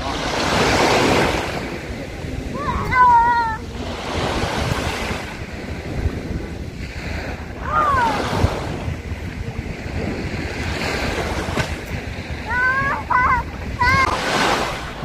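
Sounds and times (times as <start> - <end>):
small waves breaking on shore: 0.0 - 15.0
wind on microphone: 0.0 - 15.0.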